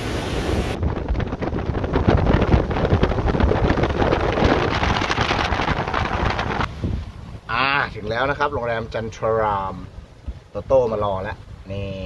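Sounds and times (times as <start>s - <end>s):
boat engine: 0.0s - 12.0s
water noise: 0.0s - 12.0s
wind buffeting microphone: 0.0s - 12.0s.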